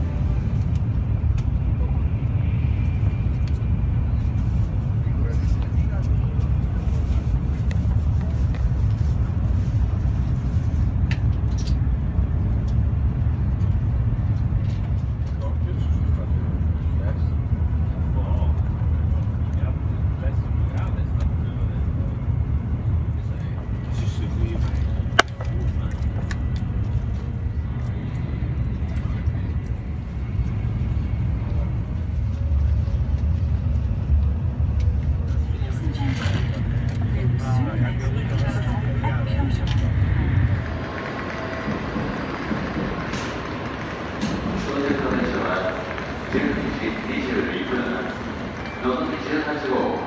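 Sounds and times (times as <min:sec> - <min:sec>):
train low rumble: 0:00.0 - 0:50.0.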